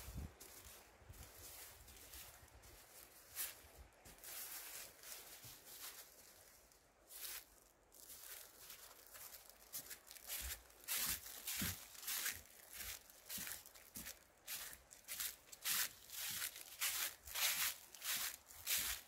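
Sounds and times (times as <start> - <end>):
footsteps crunching through dry leaves: 0.0 - 19.0.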